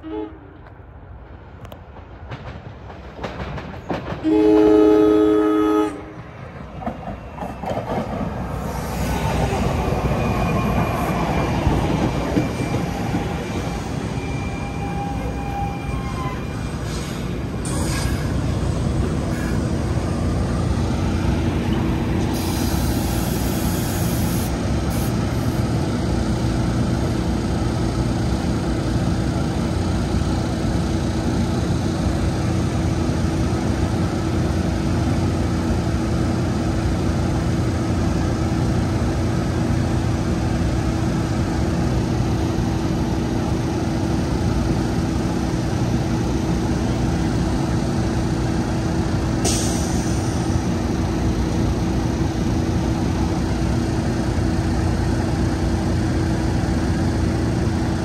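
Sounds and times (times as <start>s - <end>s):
electric train humming: 8.2s - 58.0s.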